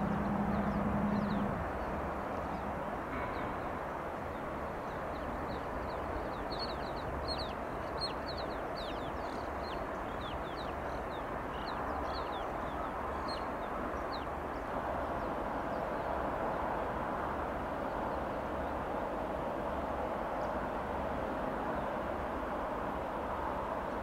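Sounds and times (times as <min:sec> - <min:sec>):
distant freight train rumbling: 0:00.0 - 0:24.0.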